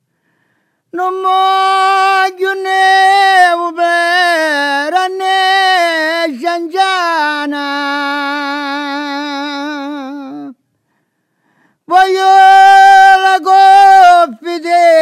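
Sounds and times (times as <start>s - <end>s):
solo voice singing: 0.9s - 10.6s, 11.9s - 15.0s.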